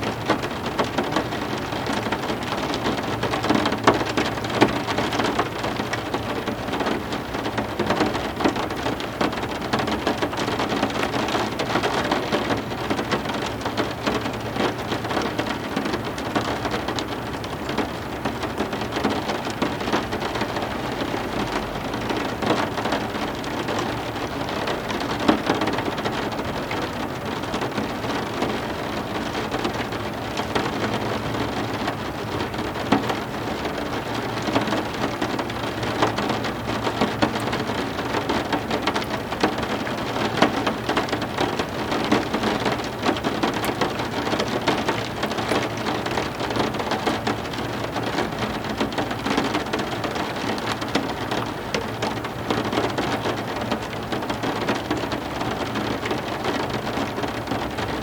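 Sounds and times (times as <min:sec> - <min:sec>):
heavy rain falling on surface: 0:00.0 - 0:58.0.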